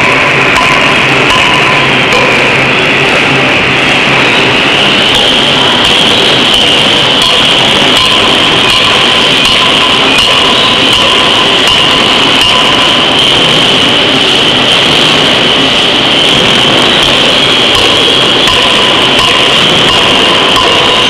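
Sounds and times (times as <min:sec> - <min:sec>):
forging hammer machinery roar: 0:00.0 - 0:21.0
high-pitched whine: 0:00.0 - 0:21.0.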